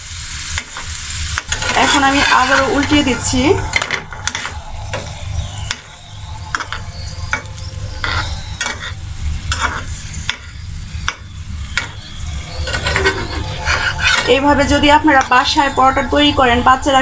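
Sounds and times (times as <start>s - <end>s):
flatbread sizzling in pan: 0.0s - 17.0s
metal spatula scraping pan: 0.6s - 16.1s.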